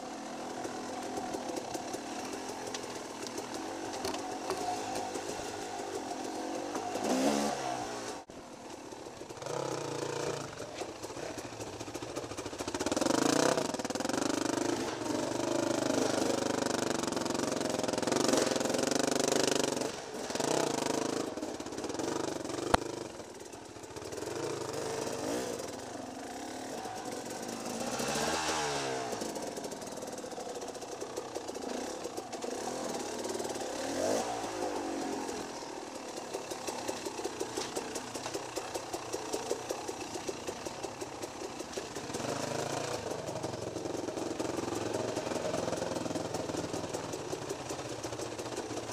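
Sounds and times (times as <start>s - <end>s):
dirt bike engine revving: 0.0s - 8.3s, 9.4s - 23.4s, 24.0s - 46.9s.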